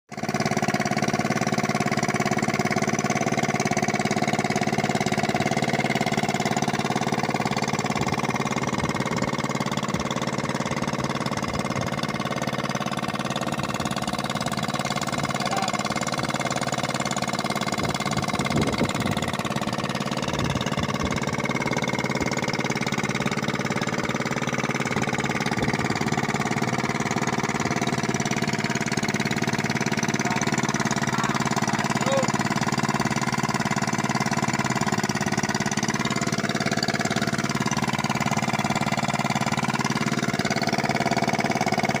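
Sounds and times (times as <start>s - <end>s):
boat engine humming: 0.1s - 42.0s.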